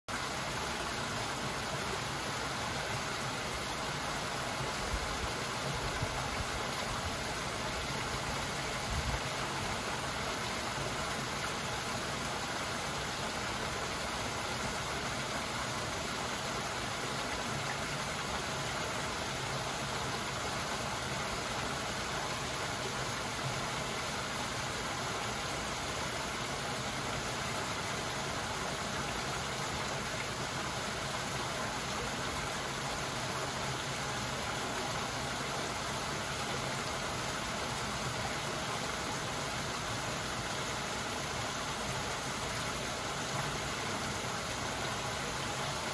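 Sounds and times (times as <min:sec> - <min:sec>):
waterfall splashing over rocks: 0:00.1 - 0:45.9.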